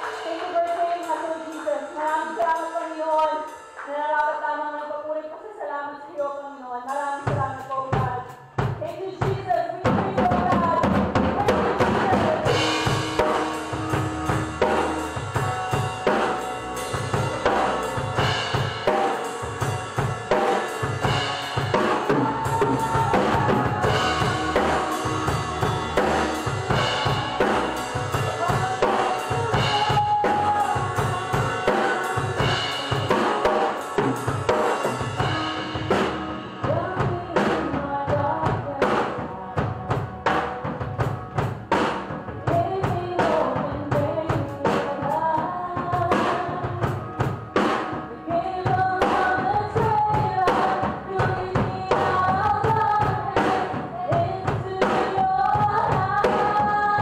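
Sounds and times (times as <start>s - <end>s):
drum kit beat: 0.0s - 4.4s, 6.8s - 57.0s
worship band playing: 0.0s - 4.6s, 9.9s - 57.0s.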